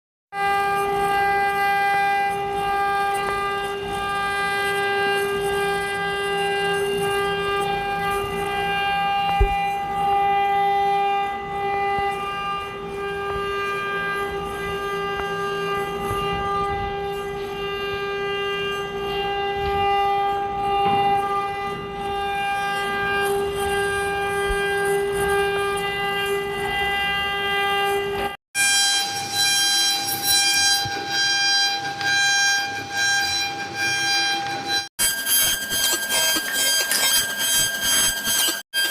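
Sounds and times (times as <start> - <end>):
rough wood cutting noise: 0.3 - 38.9
router spindle whining: 0.4 - 38.9.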